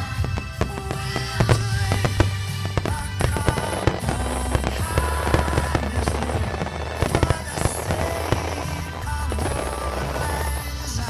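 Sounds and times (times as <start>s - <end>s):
fireworks bursting and crackling: 0.0s - 11.0s
music playing: 0.0s - 11.0s.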